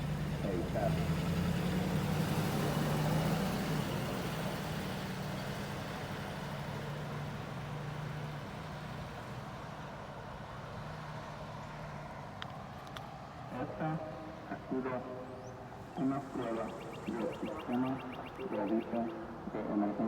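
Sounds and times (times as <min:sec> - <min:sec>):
outdoor background noise: 0:00.0 - 0:20.0
vehicle engine humming: 0:00.0 - 0:20.0.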